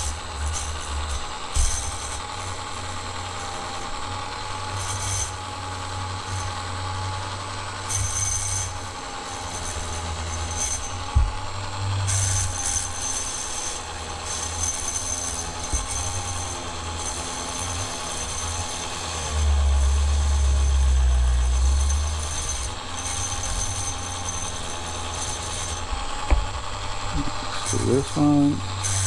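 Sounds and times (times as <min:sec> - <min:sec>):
rotary tool motor whine: 0:00.0 - 0:29.0.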